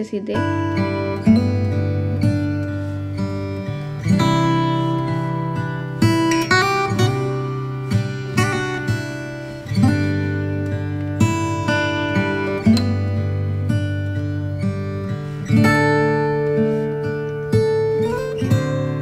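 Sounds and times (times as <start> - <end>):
strummed acoustic guitar: 0.3 - 19.0.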